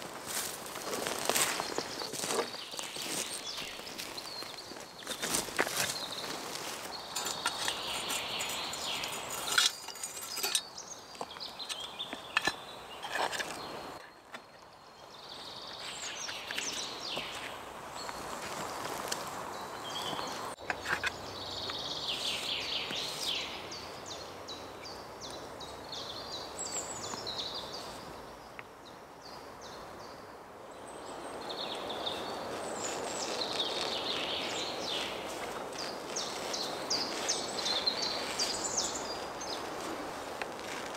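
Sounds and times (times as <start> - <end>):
songbirds trilling: 0.3 - 40.9.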